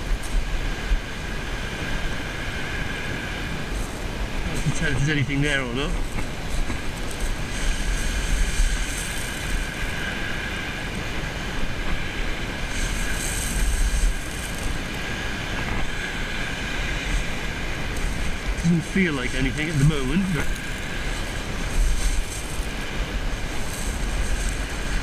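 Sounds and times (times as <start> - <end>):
waves on shingle beach: 0.0 - 25.0
wind buffeting microphone: 0.0 - 25.0.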